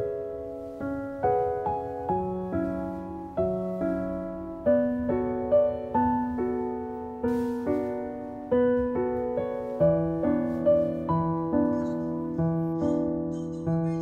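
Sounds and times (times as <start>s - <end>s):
gentle solo piano: 0.0s - 14.0s.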